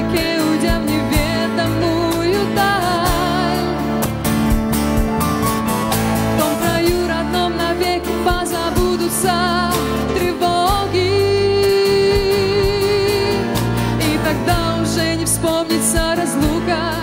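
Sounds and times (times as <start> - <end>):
pop instrumental music: 0.0 - 17.0.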